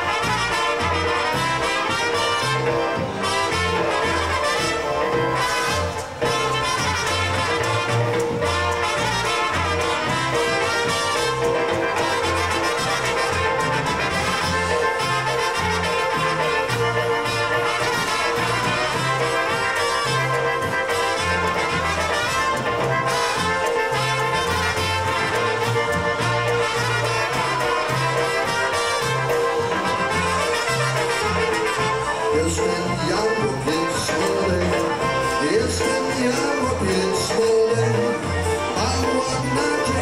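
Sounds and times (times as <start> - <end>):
bouncing bass line: 0.0 - 40.0
polka band playing: 0.0 - 40.0
trumpets: 0.0 - 40.0.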